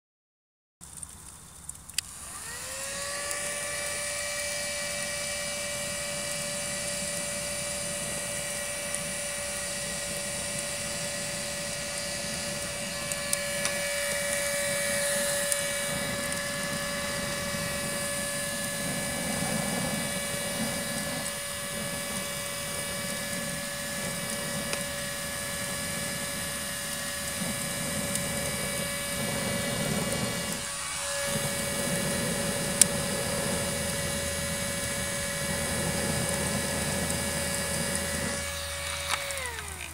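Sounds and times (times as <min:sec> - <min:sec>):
faint fire crackles: 0:00.8 - 0:39.9
blower motor whine: 0:00.9 - 0:39.9.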